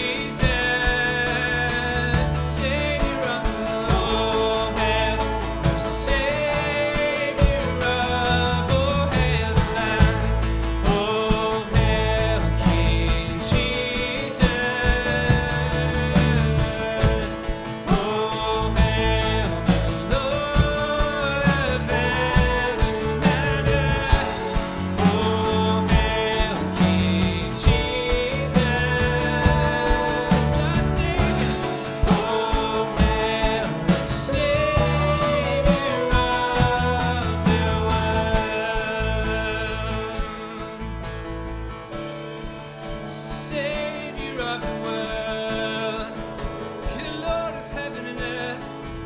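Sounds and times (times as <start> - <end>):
worship band music: 0.0 - 49.0.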